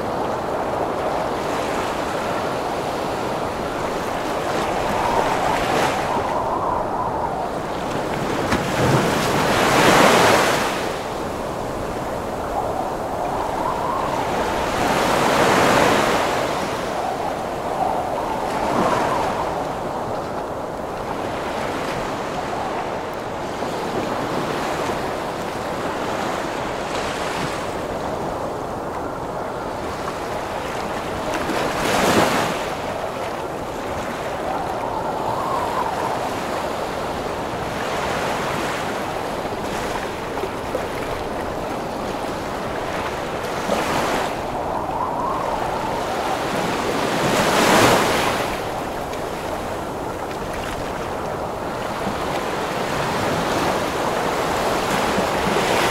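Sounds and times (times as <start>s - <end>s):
gusting wind: 0.0s - 55.9s
ocean waves crashing: 0.0s - 55.9s.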